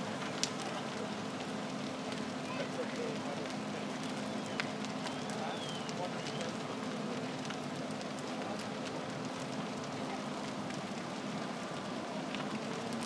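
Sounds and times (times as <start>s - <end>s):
fire crackling and popping: 0.0s - 13.0s
fire engine pump humming: 0.0s - 13.0s.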